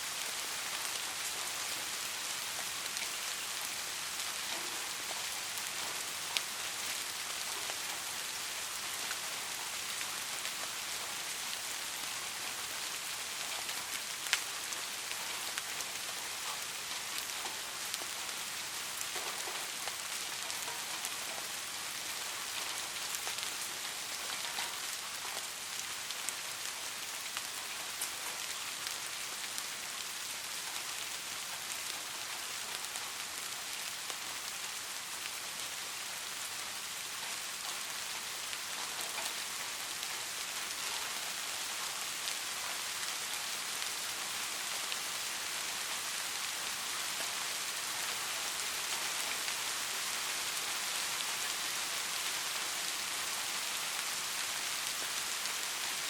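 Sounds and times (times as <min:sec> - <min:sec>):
soft rain with raindrop ticks: 0:00.0 - 0:56.0.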